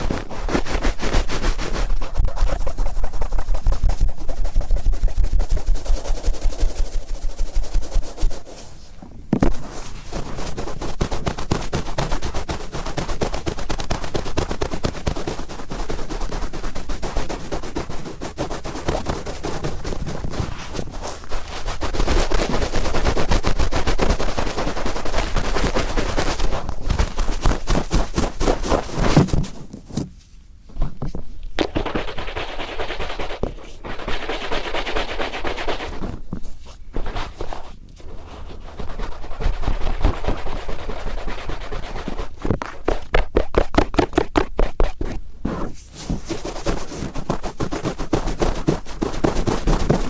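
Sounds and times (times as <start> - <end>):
cotton swab scratching in ear: 0.0 - 8.9, 9.5 - 30.2, 31.6 - 50.0.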